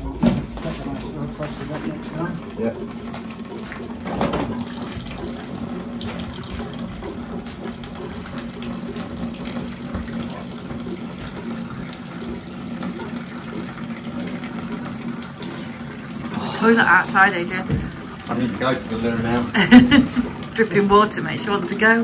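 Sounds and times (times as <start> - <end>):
liquid running from tap: 0.0 - 22.0.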